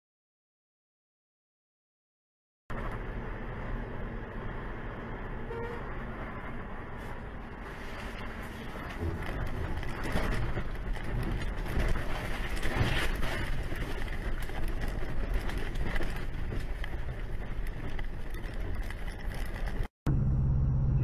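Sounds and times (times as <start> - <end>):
vehicle cab rumble: 2.7 - 21.0.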